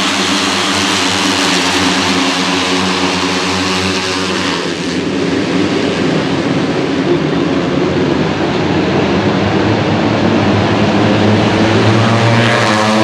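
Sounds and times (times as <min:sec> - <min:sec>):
race motorcycle engines: 0:00.0 - 0:13.0.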